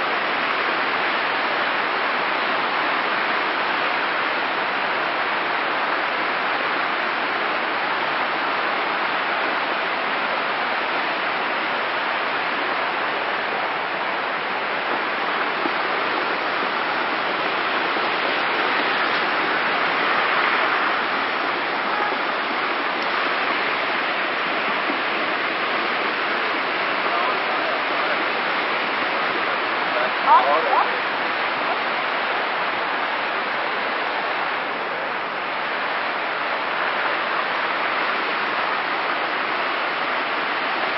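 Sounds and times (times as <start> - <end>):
flood water rushing: 0.0 - 40.9
heavy rain: 0.0 - 40.9.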